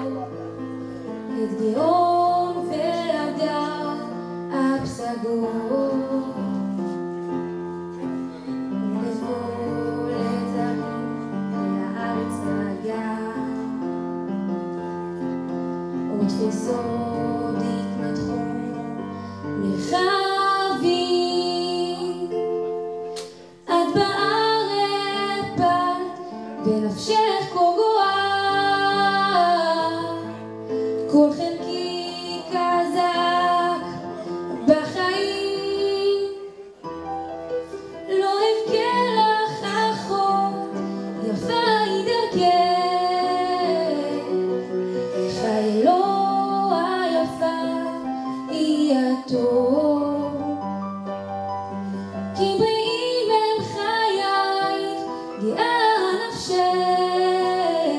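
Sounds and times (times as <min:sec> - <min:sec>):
instrumental accompaniment: 0:00.0 - 0:57.9
woman singing into microphone: 0:01.3 - 0:06.9, 0:08.9 - 0:13.9, 0:15.9 - 0:22.7, 0:23.3 - 0:36.7, 0:38.0 - 0:50.7, 0:52.3 - 0:57.9.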